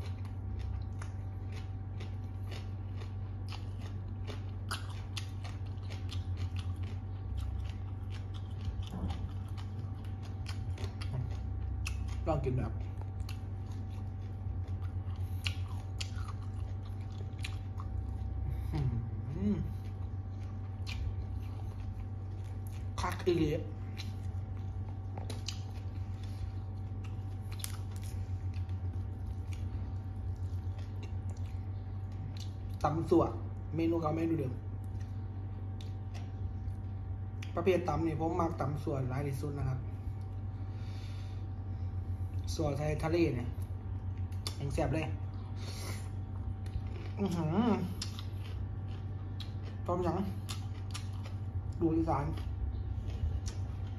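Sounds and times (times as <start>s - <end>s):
person chewing crunchy food: 0.0s - 33.7s, 34.6s - 37.6s, 43.6s - 53.9s
low hum: 0.0s - 53.9s.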